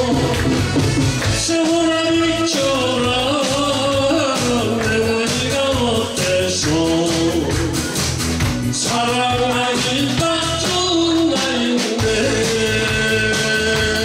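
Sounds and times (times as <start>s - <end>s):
man singing into microphone: 0.0s - 8.0s, 8.7s - 14.0s
band with drum kit: 0.0s - 14.0s.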